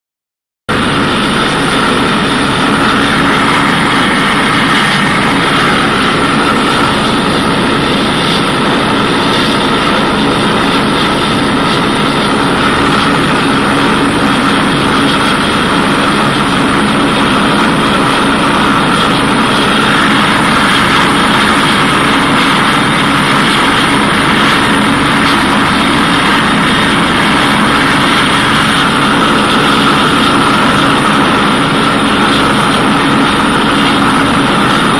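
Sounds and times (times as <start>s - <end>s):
helicopter engine whine: 0.7s - 34.9s
helicopter rotor noise: 0.7s - 34.9s.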